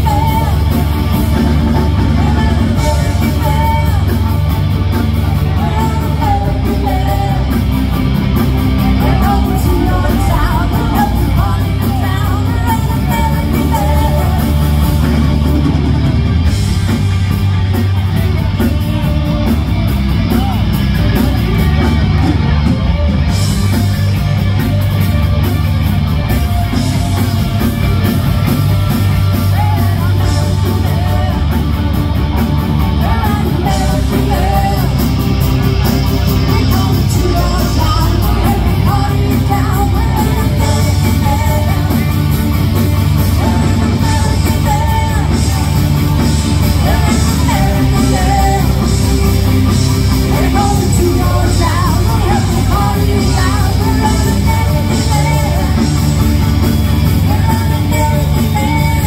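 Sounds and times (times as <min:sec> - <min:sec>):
person singing: 0:00.0 - 0:16.2, 0:26.3 - 0:59.0
drums: 0:00.0 - 0:59.0
electric guitar: 0:00.0 - 0:59.0.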